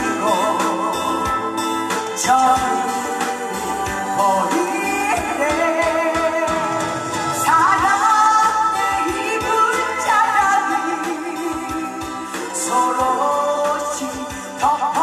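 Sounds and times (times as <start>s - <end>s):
instrumental backing with drum beat: 0.0s - 15.0s
person singing a pop ballad: 0.0s - 15.0s.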